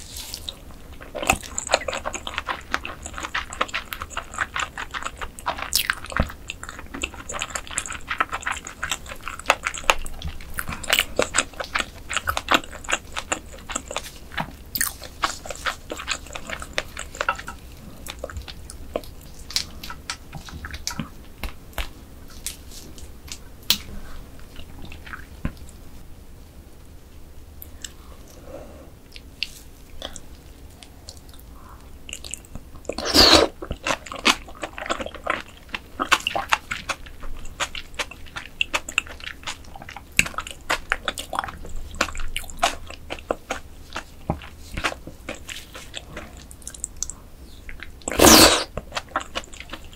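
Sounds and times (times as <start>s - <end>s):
chewing and crunching: 0.0s - 25.8s, 29.1s - 49.9s.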